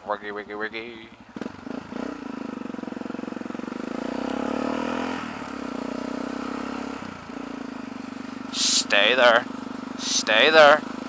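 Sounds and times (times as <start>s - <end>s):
single-cylinder engine revving: 1.1s - 11.0s.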